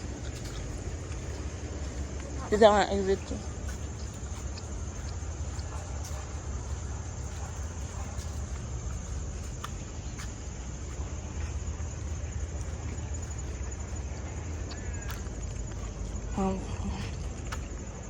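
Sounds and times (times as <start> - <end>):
faint ticks: 3.2 - 18.0.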